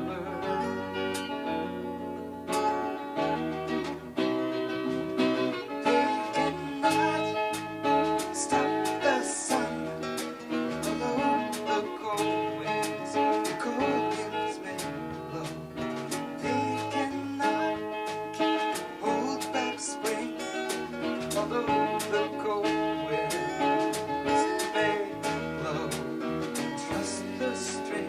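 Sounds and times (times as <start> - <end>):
strummed acoustic guitar: 0.0 - 28.0
band playing: 2.5 - 28.0.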